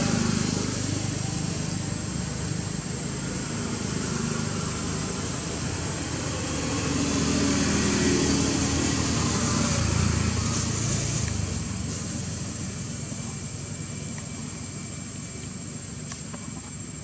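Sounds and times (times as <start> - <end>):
motor engine droning past: 0.0 - 15.2.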